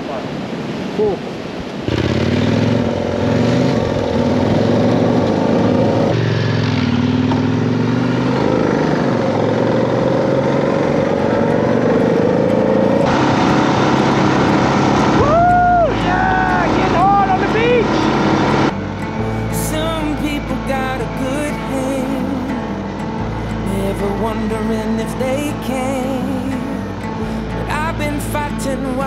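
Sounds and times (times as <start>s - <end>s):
motorcycle engine running under load: 1.9s - 28.3s.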